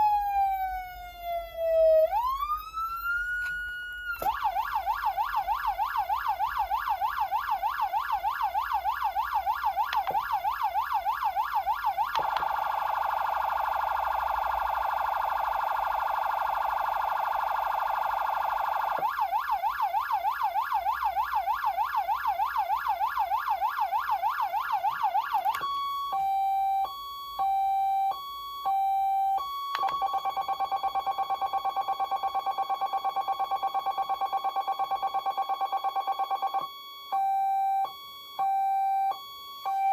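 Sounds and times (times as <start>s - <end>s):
electronic siren cycling tones: 0.0s - 39.9s.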